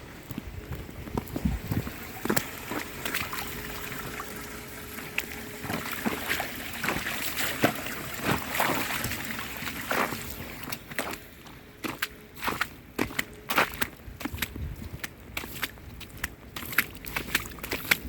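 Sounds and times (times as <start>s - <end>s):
footsteps on wet ground: 0.0s - 18.0s
trickling water: 0.9s - 18.0s.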